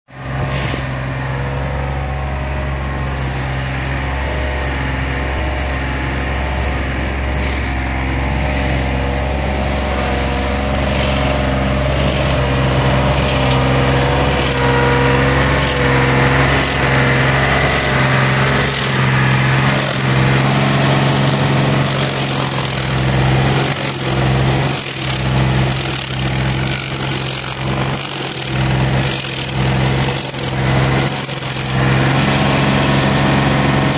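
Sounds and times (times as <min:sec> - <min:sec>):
stump grinder engine running: 0:00.1 - 0:33.9
cutter wheel grinding stump: 0:00.2 - 0:33.9.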